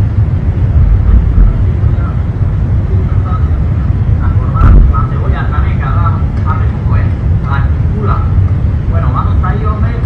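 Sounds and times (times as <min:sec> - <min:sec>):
loud low rumble: 0:00.0 - 0:10.0
muffled voice: 0:01.4 - 0:10.0.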